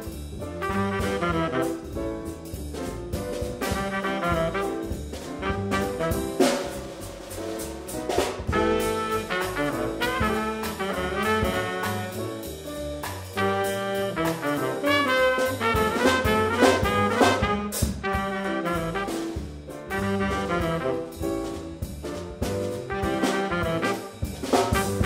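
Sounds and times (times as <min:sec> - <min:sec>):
jazz music with brass horns: 0:00.0 - 0:25.0.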